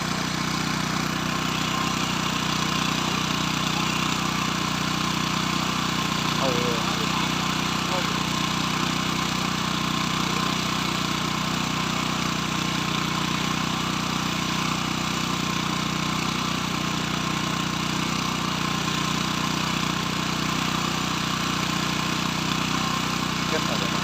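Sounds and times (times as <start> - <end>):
motor humming: 0.0 - 24.0.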